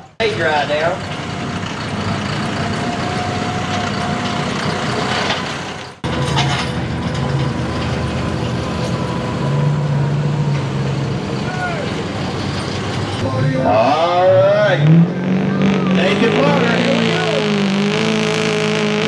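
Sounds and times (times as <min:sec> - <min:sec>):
diesel truck engines at low revs: 0:00.0 - 0:19.0.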